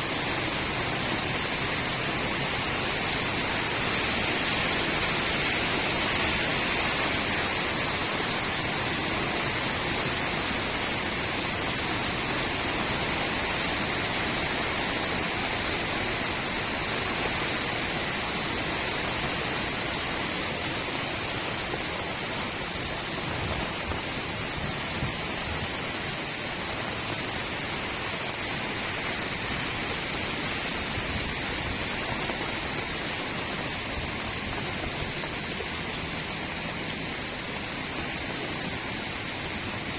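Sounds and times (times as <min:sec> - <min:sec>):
steady rain on a street: 0:00.0 - 0:39.9.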